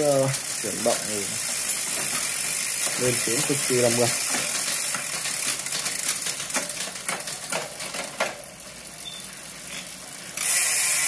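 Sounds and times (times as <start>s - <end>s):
bicycle chain ticking: 0.0s - 11.0s.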